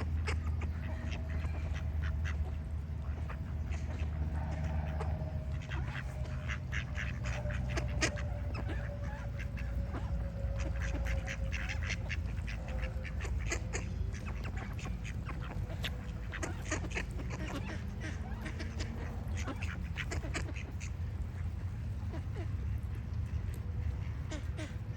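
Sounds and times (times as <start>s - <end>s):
birds calling: 0.0s - 24.9s
ducks quacking: 0.0s - 24.9s
steady low rumble: 0.0s - 24.9s.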